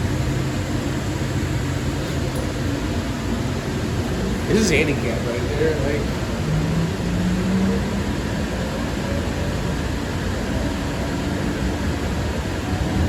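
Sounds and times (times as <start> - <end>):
light rail car running: 0.0 - 13.0.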